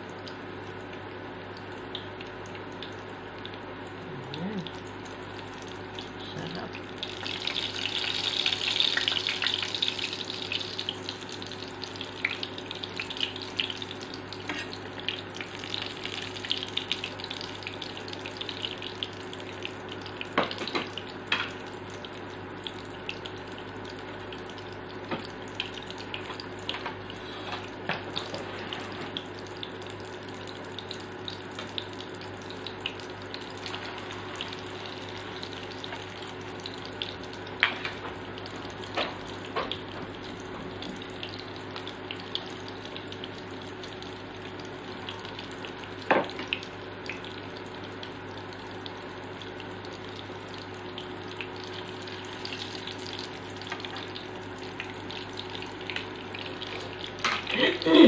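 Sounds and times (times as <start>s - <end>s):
eggplant sizzling in hot oil: 0.3s - 58.0s.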